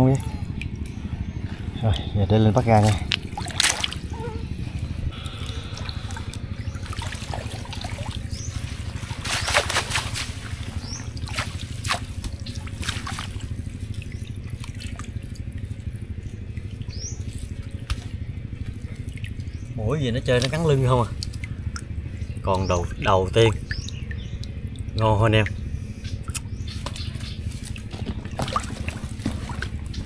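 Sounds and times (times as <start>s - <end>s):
steady low hum: 0.0s - 30.0s
water trickling and splashing: 0.0s - 30.0s.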